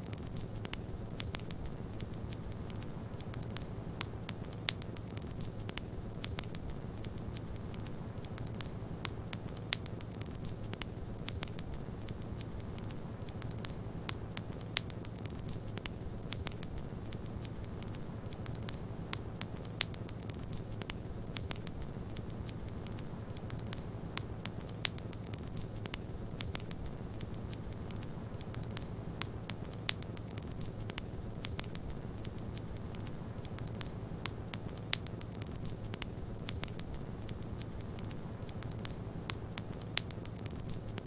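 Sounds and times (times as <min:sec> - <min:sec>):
fire pops: 0:00.0 - 0:41.0
wood fire crackling: 0:00.0 - 0:41.0.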